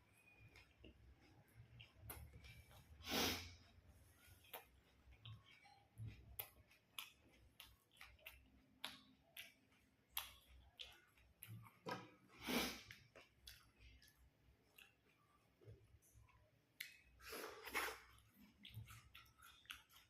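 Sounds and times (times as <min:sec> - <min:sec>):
eating clicks and crunches: 0:03.6 - 0:20.0.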